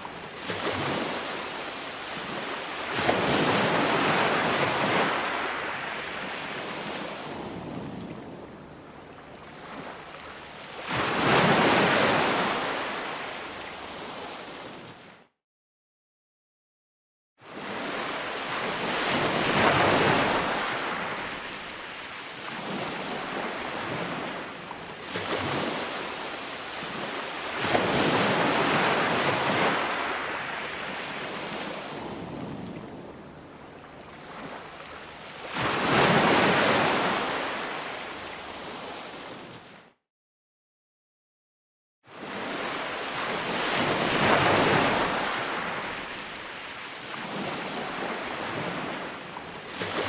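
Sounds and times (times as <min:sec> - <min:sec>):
ocean waves breaking on shore: 0:00.0 - 0:15.2, 0:17.4 - 0:40.0, 0:42.1 - 0:50.0.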